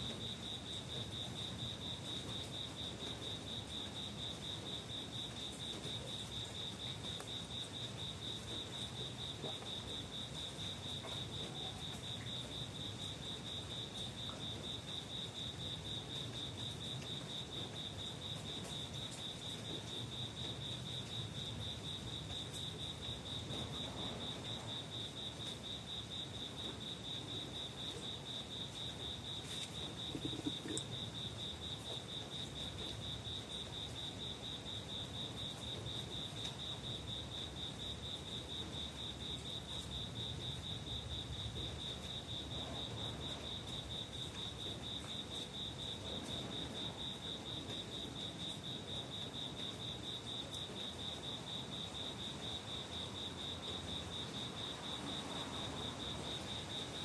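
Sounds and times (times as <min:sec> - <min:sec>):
cricket trilling: 0:00.0 - 0:57.0.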